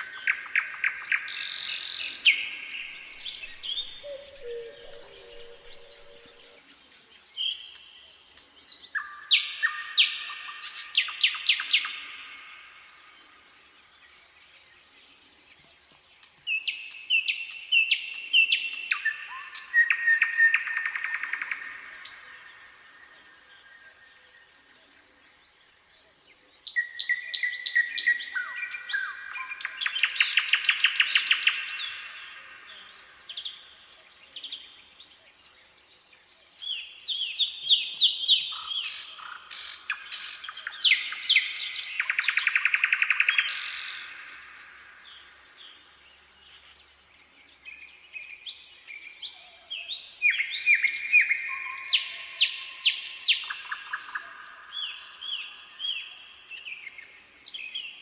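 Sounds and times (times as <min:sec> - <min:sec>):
nightingale singing: 0:00.0 - 0:35.8, 0:36.4 - 0:58.0.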